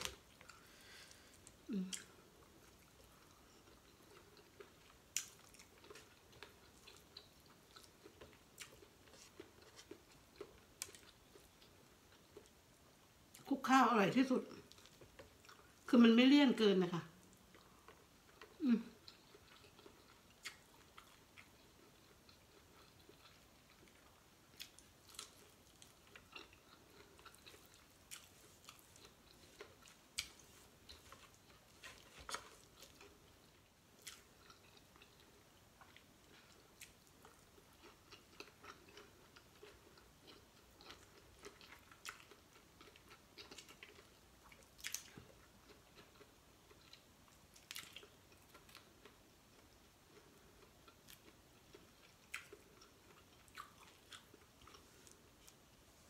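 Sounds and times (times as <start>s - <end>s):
wet chewing and mouth smacks: 0.0s - 12.6s, 17.3s - 55.6s.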